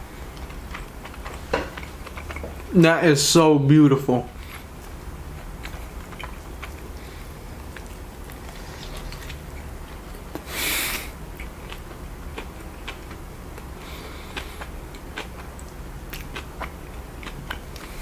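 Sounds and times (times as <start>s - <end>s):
chewing with wet mouth clicks: 0.3s - 2.8s, 4.4s - 7.0s, 7.6s - 10.5s, 11.3s - 18.0s.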